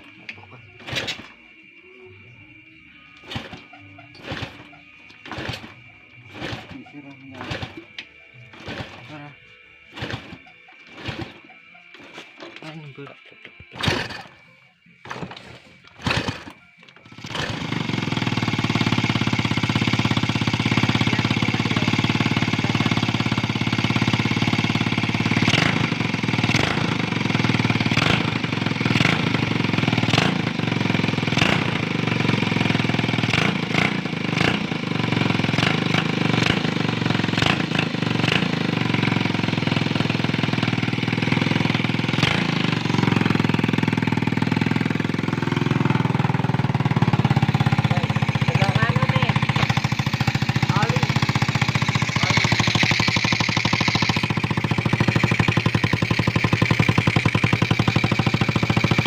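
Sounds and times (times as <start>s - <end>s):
old motorcycle engine running: 0.0s - 59.0s.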